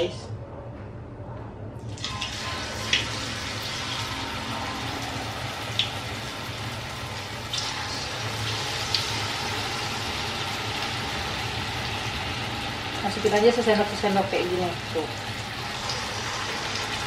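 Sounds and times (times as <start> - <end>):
batter frying in hot oil: 2.0 - 17.0.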